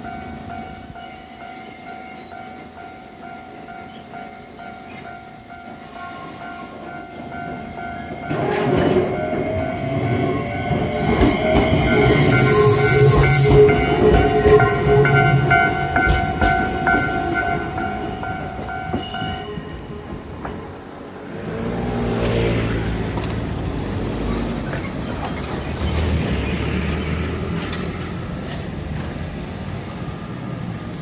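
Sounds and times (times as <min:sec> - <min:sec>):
rumble of train wheels: 0:00.0 - 0:31.0
train multi-tone whine: 0:00.0 - 0:31.0.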